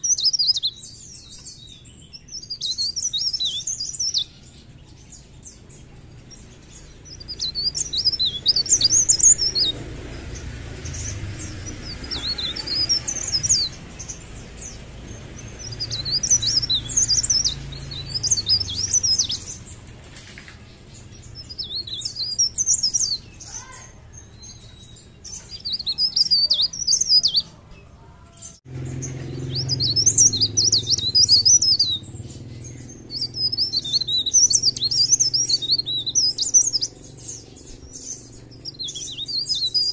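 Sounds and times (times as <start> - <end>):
warbler twittering song: 0.0 - 39.9.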